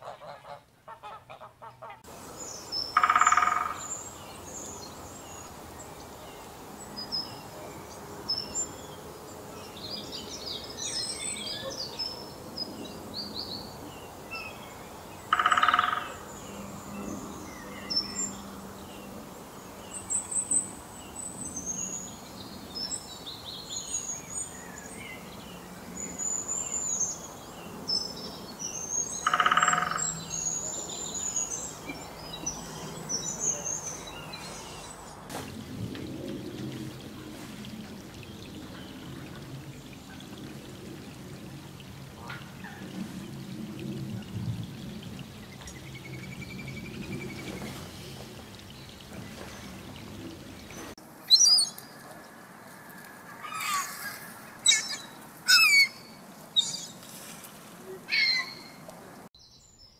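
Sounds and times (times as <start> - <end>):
small birds chirping and trilling: 2.2 - 35.3, 42.2 - 52.3, 53.4 - 59.9.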